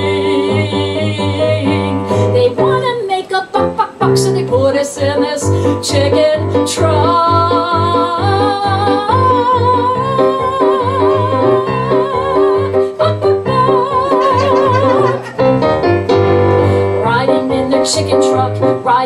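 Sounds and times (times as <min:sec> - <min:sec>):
woman singing wordless notes: 0:00.0 - 0:15.4, 0:16.6 - 0:19.0
rhythmic accompaniment: 0:00.0 - 0:18.9.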